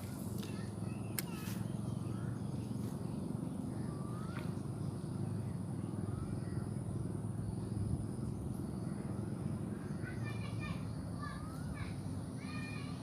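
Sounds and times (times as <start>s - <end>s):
faint chirping calls: 0.0s - 13.0s
low outdoor rumble: 0.0s - 13.0s.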